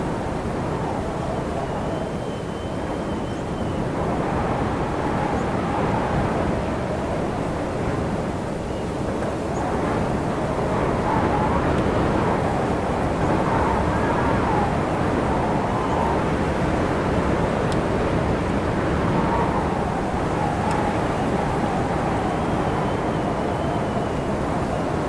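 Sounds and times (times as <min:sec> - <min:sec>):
wind blowing with faint whistle: 0:00.0 - 0:25.0.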